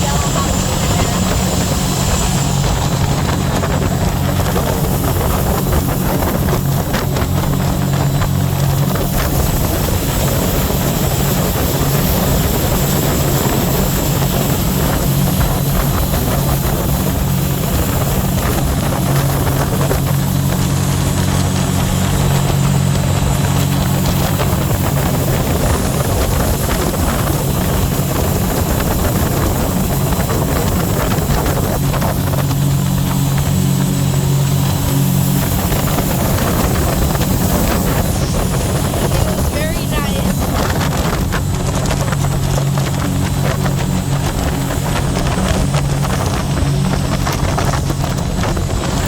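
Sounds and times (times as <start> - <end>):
boat engine droning: 0.0 - 49.0
rushing water noise: 0.0 - 49.0.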